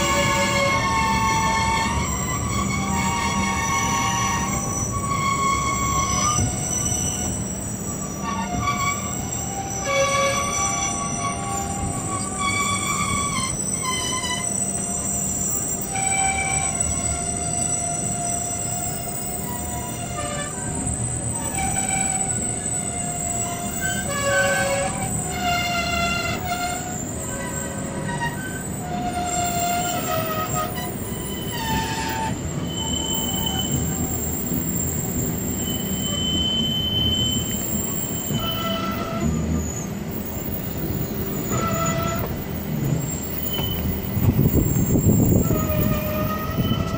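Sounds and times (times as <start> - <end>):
train running rumble: 0.0 - 46.9
train wheels squealing on rails: 0.0 - 46.9.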